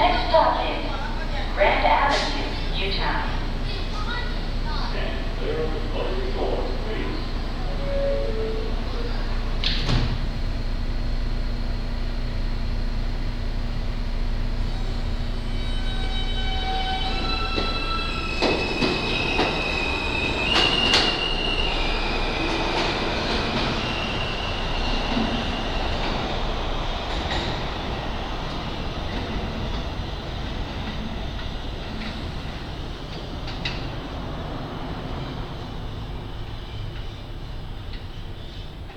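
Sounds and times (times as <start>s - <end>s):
train wheels rumbling on rails: 0.0s - 10.7s, 14.0s - 38.9s
train traction motors whining: 0.0s - 38.9s.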